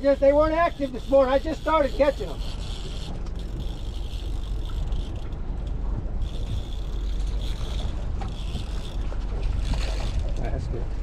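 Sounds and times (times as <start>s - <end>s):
boat engine rumble: 0.0s - 11.0s
faint mechanical clicks: 0.2s - 10.5s
wind on microphone: 0.8s - 11.0s.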